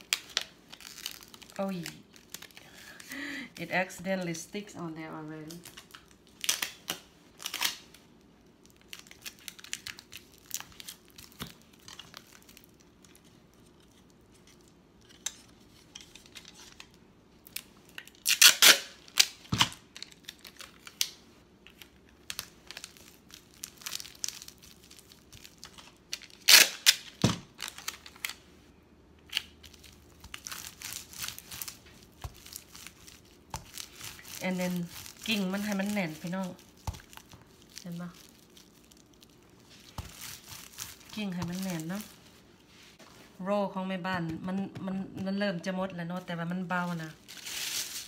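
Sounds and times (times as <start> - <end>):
plastic wrap tearing: 0.0 - 3.2, 5.4 - 28.4, 29.2 - 42.3, 46.9 - 48.0
plastic wrap crinkling: 0.0 - 4.0, 5.1 - 28.4, 29.2 - 43.2, 46.7 - 48.0.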